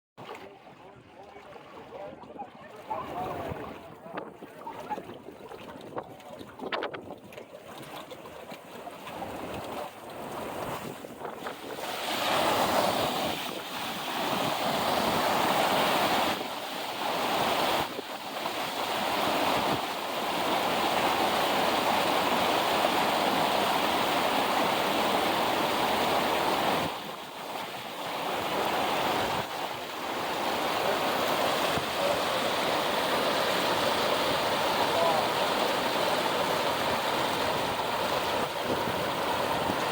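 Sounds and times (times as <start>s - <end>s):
waves breaking: 0.2s - 39.9s.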